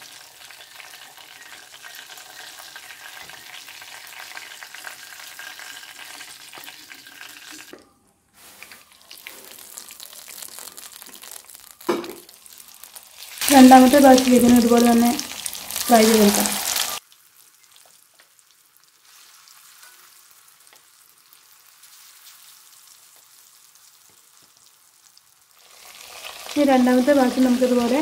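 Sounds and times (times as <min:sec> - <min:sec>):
chicken sizzling in oil: 0:00.0 - 0:07.7, 0:08.4 - 0:28.0.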